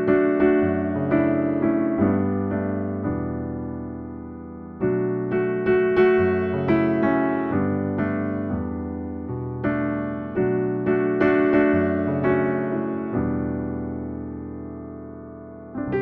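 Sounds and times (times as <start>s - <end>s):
piano playing notes and chords: 0.0s - 16.0s.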